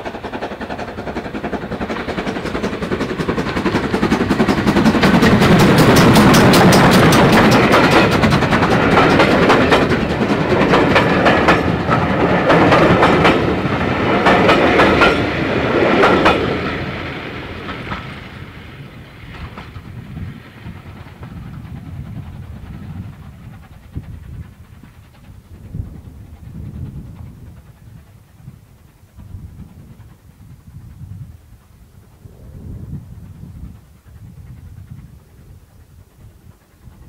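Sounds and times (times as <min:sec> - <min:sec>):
train wheels clattering over rail joints: 0:00.0 - 0:31.7.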